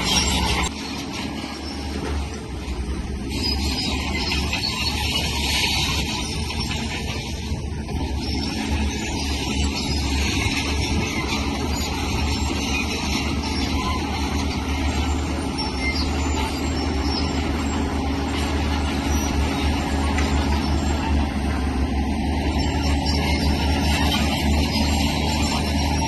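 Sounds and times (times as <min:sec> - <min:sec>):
heavy diesel machinery droning: 0:00.0 - 0:26.0.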